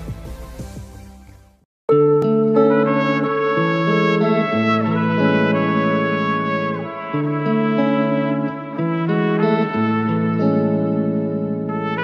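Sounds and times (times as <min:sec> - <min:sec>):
music: 0:00.0 - 0:12.0
brass chords: 0:01.9 - 0:12.0.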